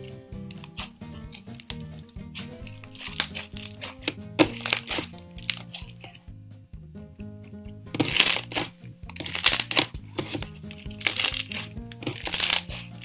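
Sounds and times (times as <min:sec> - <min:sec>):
background music: 0:00.0 - 0:13.0
slime crackling and crunching: 0:00.5 - 0:06.2, 0:07.9 - 0:13.0.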